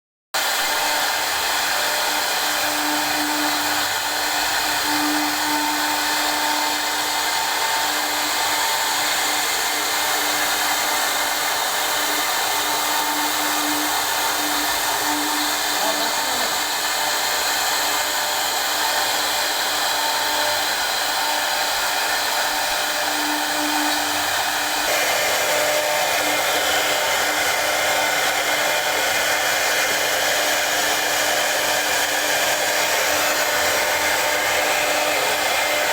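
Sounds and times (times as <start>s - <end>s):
router spindle whirring: 0.4s - 35.9s.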